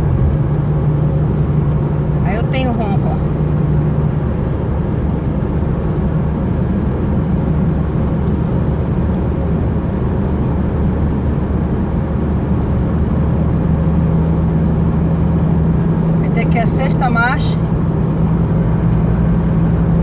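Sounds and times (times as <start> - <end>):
drivetrain growl while driving: 0.0 - 20.0.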